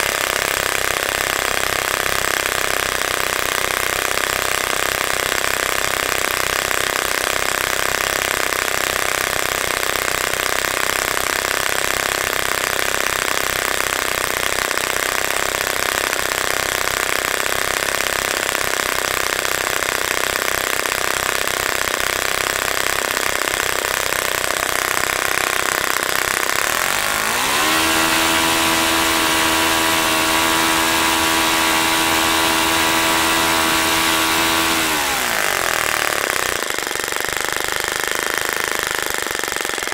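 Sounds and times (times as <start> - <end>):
model glow engine running: 0.0 - 39.9.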